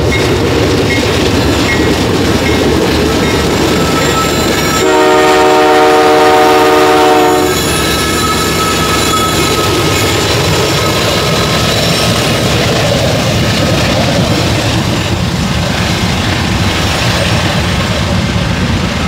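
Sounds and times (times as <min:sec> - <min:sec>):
diesel locomotive engines: 0:00.0 - 0:19.0.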